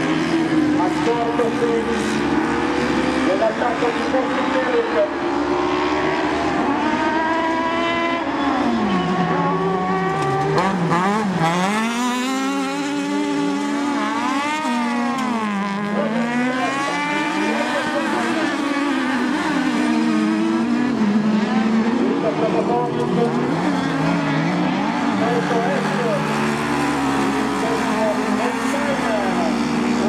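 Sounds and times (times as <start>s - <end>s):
buggy engines racing: 0.0s - 30.0s.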